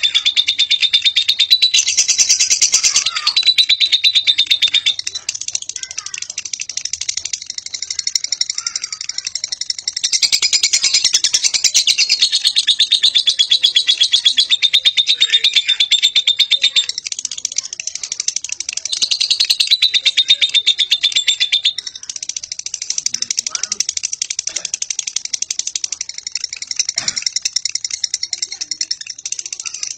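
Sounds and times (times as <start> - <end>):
lovebird shrill chatter: 0.0 - 29.9.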